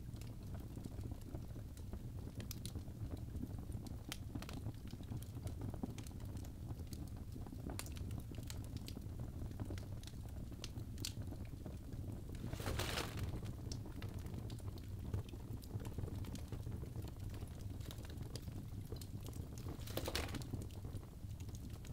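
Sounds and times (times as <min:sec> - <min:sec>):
fire crackling and popping: 0:00.0 - 0:21.9
low rumble of flames: 0:00.0 - 0:21.9.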